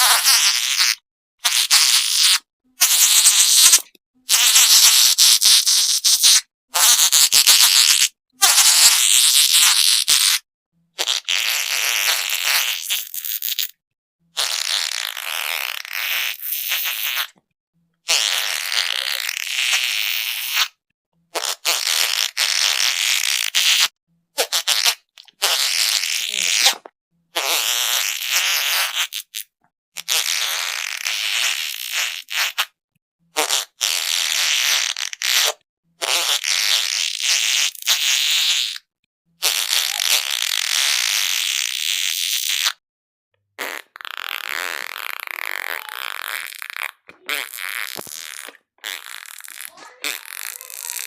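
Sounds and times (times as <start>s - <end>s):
raspy fart sounds: 0.0s - 10.4s, 11.0s - 17.4s, 18.0s - 42.8s, 43.6s - 51.0s.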